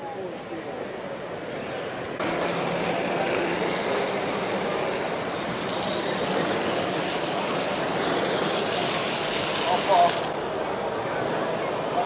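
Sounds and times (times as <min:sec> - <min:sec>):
model train rolling on track: 0:02.2 - 0:12.0.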